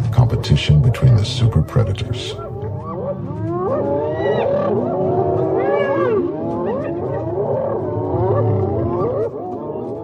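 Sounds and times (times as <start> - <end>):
hyenas squealing and yelping: 1.4 - 10.0.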